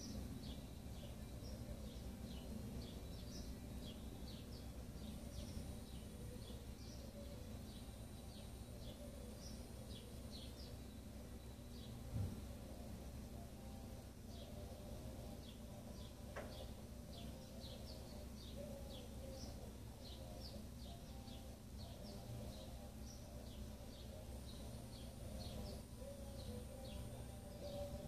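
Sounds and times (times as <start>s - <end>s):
low electrical hum: 0.0s - 28.0s
small birds chirping: 0.0s - 28.0s.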